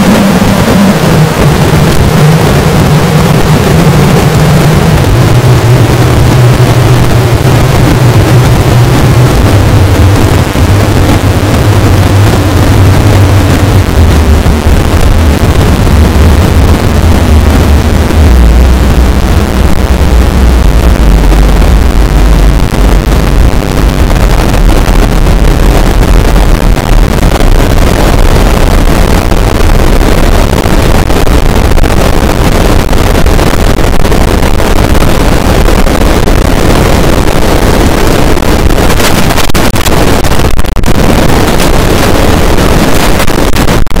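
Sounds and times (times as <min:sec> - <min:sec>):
harsh distorted noise with low rumble: 0:00.0 - 0:44.0.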